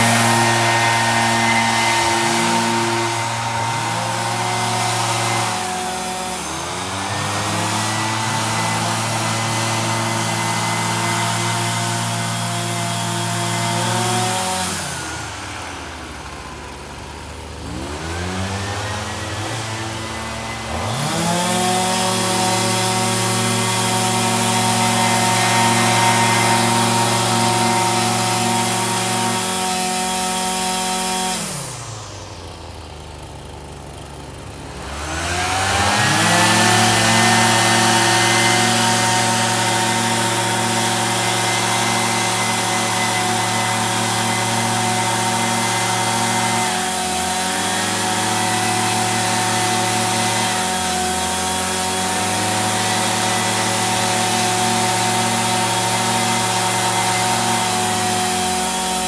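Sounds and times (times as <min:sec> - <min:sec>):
two-stroke power tool engine revving: 0:00.0 - 0:59.0.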